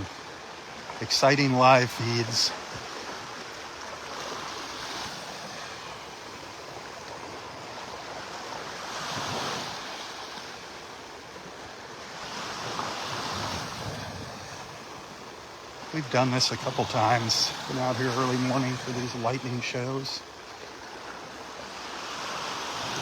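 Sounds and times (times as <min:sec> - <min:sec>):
small waves washing on beach: 0:00.0 - 0:23.0.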